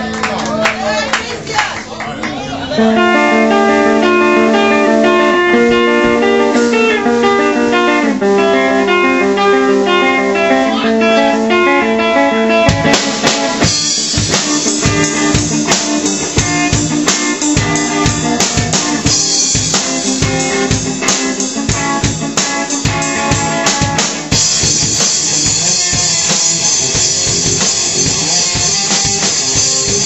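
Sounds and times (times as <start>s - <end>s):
drum kit beat: 0.0s - 30.0s
electric guitar chords: 0.0s - 30.0s.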